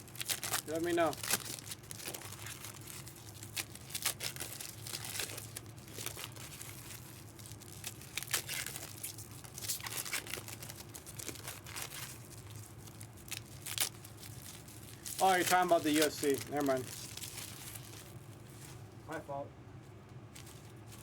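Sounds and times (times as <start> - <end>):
packaging crinkling and tearing: 0.0 - 18.8, 20.3 - 21.0
steady low hum: 0.0 - 21.0.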